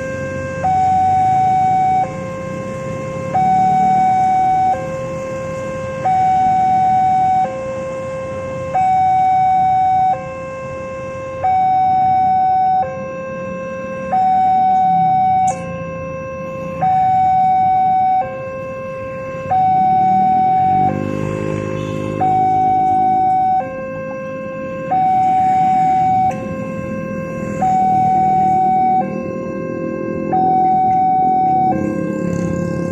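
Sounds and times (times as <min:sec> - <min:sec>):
level crossing two-tone alarm: 0:00.0 - 0:32.9
low rumble of traffic: 0:00.0 - 0:32.9.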